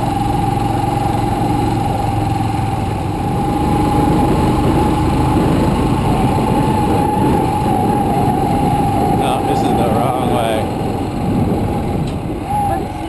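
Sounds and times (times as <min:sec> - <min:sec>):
motorcycle engine whine: 0:00.0 - 0:13.0
wind and road noise: 0:00.0 - 0:13.0.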